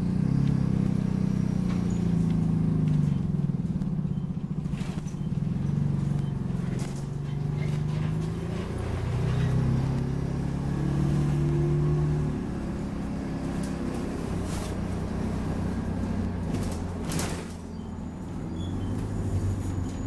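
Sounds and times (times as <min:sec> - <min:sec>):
bus diesel engine pulling away: 0:00.0 - 0:20.0.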